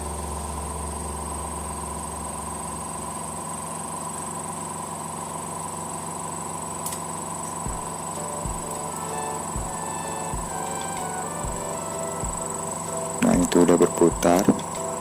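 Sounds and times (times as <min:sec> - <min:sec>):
spin-dryer motor humming and whining: 0:00.0 - 0:15.0.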